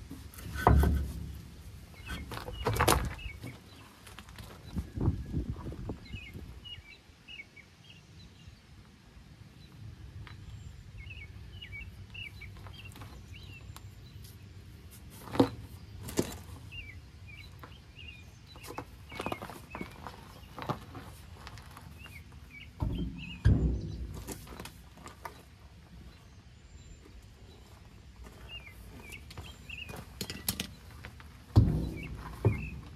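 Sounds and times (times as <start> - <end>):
small birds chirping: 1.2 - 32.9.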